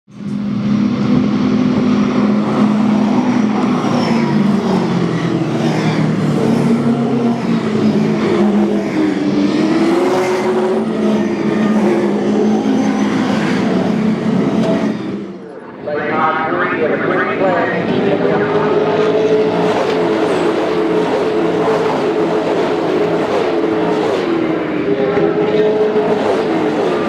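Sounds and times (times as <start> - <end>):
race car engines droning: 0.1 - 27.0.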